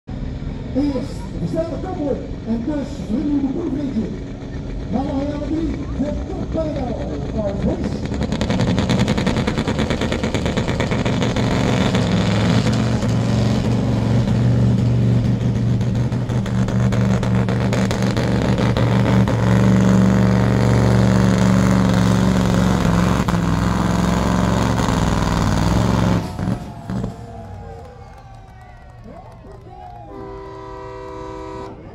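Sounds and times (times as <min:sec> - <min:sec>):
diesel truck engine at full load: 0:00.1 - 0:31.9.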